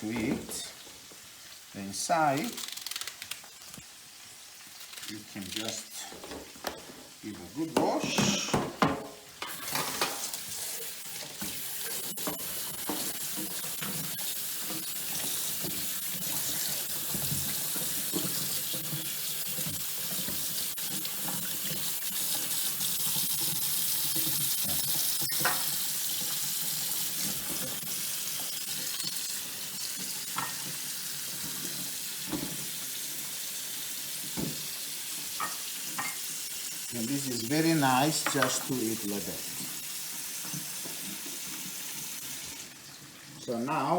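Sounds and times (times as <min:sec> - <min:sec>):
tap water running: 0:00.0 - 0:43.9.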